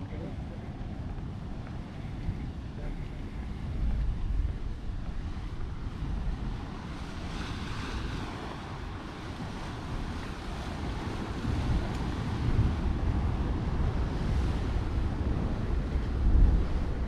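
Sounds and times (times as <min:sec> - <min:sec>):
sea surf: 0:00.0 - 0:17.0
wind buffeting microphone: 0:00.0 - 0:17.0.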